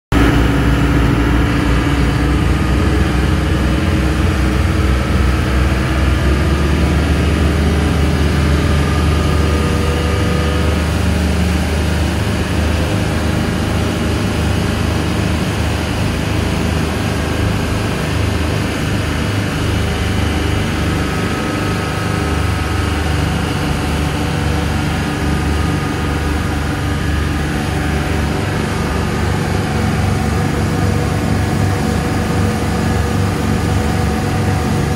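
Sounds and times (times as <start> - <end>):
boat engines running: 0.1 - 34.9
water churning in wake: 0.1 - 34.9.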